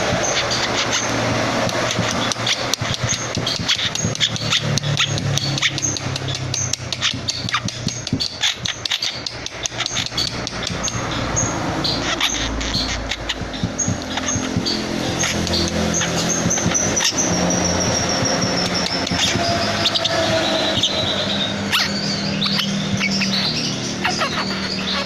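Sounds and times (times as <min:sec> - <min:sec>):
bird harsh chattering: 0:00.0 - 0:25.0
low engine hum: 0:00.0 - 0:25.0.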